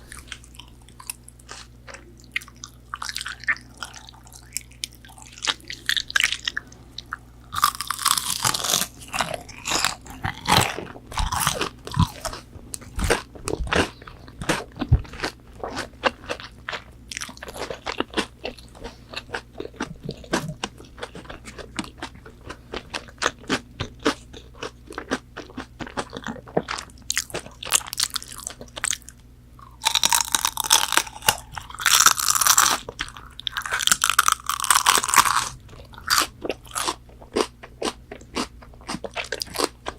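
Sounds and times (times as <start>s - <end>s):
crunching bites: 7.5s - 39.9s.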